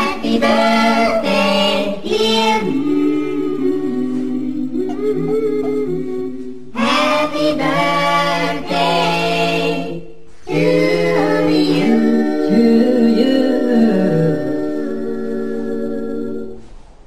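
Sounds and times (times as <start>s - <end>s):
voices singing in harmony: 0.0s - 16.7s.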